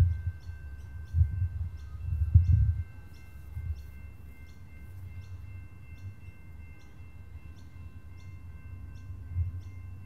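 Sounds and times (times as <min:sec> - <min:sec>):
faint steady tones: 0:00.0 - 0:10.0.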